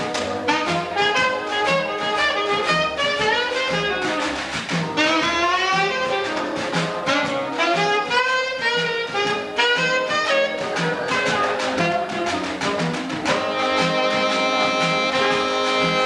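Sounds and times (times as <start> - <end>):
bassoon ensemble pulsing: 0.0 - 16.0
saxophone soloing: 0.0 - 16.0.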